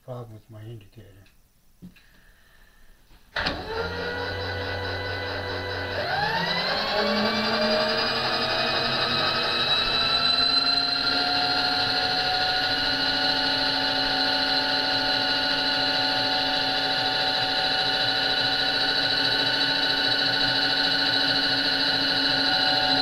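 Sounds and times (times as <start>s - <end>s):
motor drive whining: 3.4s - 23.0s.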